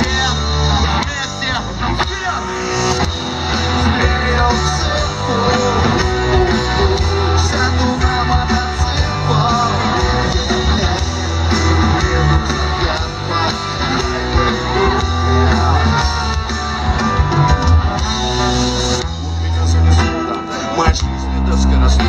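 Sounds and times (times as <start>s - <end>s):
loud rock music with singing: 0.0s - 22.0s.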